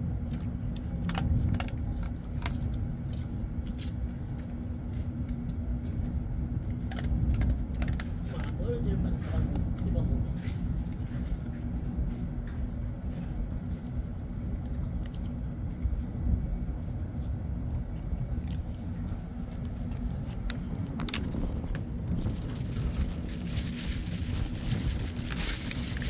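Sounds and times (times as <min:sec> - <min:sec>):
ship machinery rumble and hum: 0:00.0 - 0:26.0.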